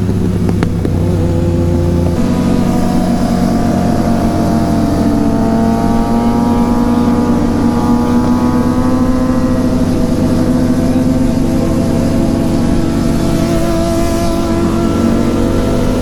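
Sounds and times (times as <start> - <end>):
motorcycle engine running: 0.0 - 16.0
wind on microphone: 0.0 - 16.0.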